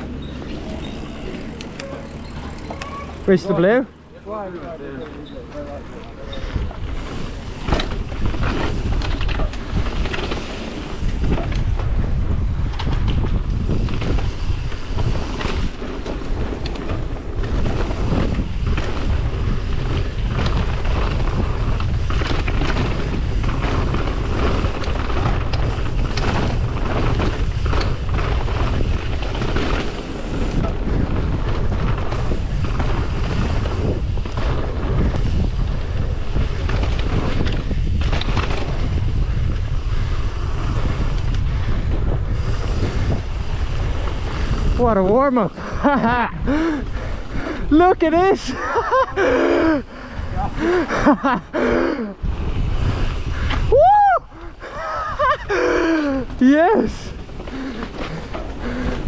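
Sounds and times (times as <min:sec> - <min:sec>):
bike tyre rumble: 0:00.0 - 0:59.0
wind buffeting microphone: 0:05.8 - 0:59.0.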